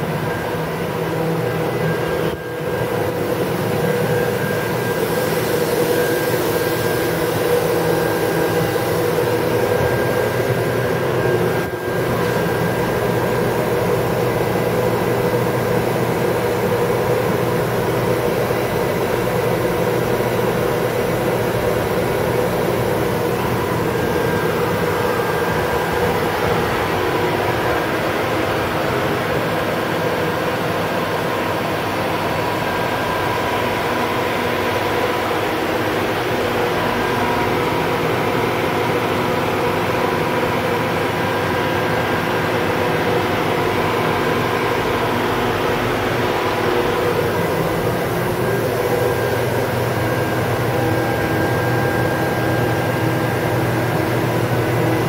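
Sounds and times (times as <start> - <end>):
machine whirring hum: 0.0 - 55.0.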